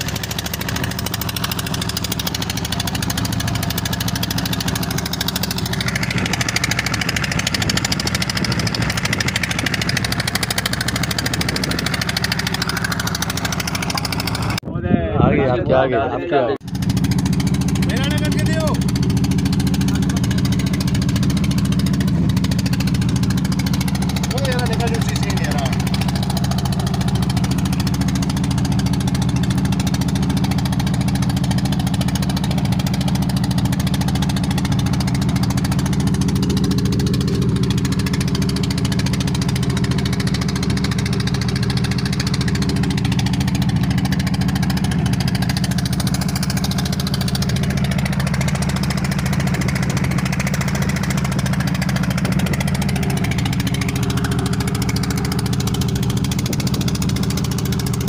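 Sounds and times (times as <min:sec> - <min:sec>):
boat engine drone: 0:00.0 - 0:14.7, 0:15.3 - 0:58.0.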